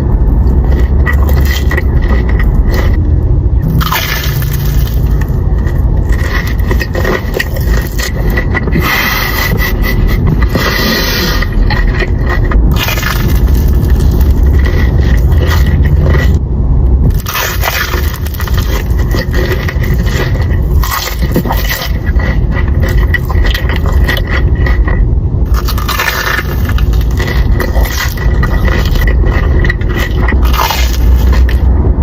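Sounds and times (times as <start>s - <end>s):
chewing and crunching: 0.0s - 16.4s, 17.0s - 32.0s.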